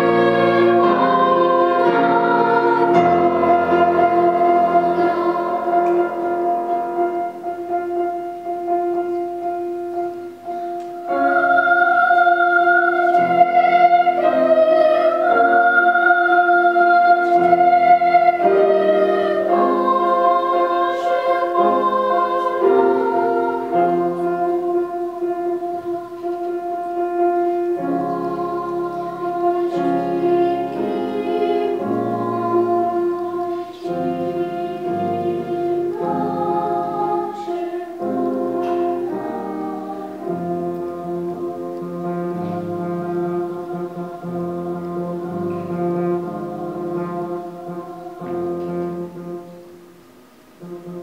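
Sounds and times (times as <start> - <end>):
children's choir singing: 0.0 - 51.0
piano chords: 0.0 - 51.0.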